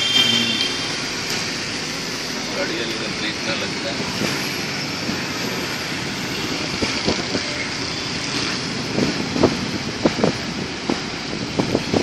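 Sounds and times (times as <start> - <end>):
tyres hissing on wet asphalt: 0.0 - 12.0.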